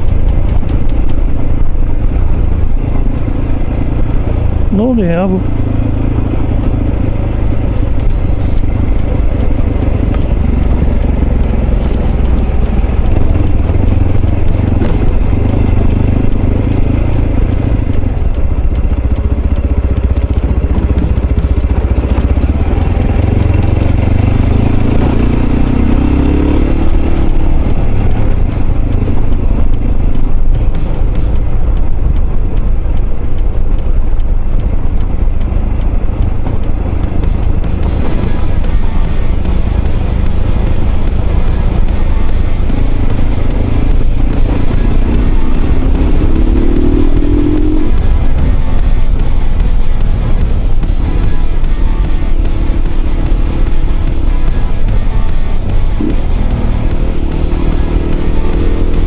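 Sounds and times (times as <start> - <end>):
stones clicking under tyres: 0.0 - 4.6, 5.5 - 49.7
motorcycle engine running: 0.0 - 59.0.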